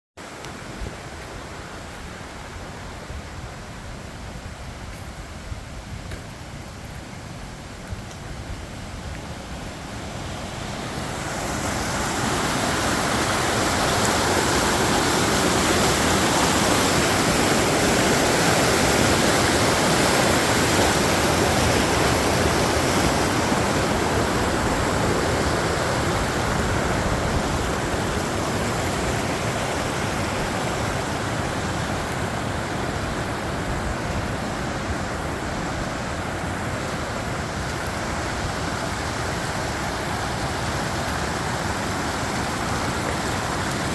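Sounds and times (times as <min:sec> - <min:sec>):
rushing creek water: 0:00.2 - 0:43.9.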